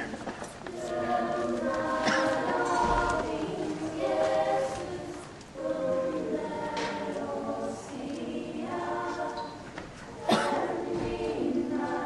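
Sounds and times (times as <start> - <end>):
choir singing unaccompanied: 0.6 - 12.0.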